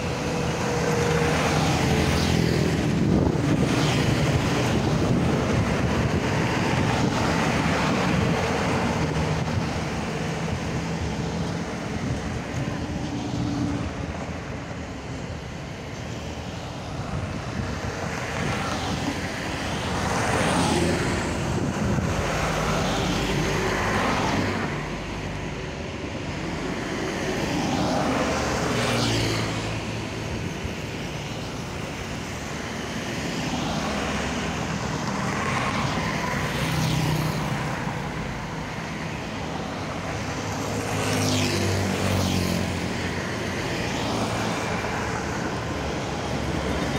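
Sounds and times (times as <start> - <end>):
vehicles passing by: 0.0 - 46.9.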